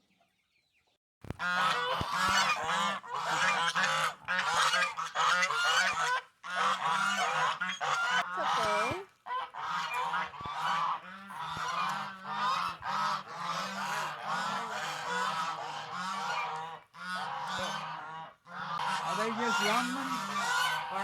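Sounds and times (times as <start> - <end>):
poultry honking calls: 1.4 - 21.0.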